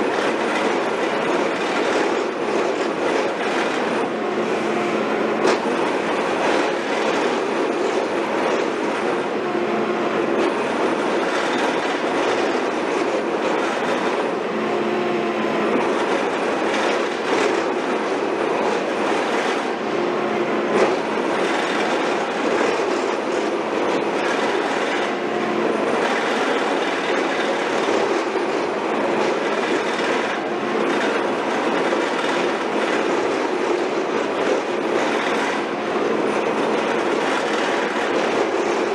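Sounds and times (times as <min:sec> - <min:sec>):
construction machinery engine drone: 0:00.0 - 0:38.9.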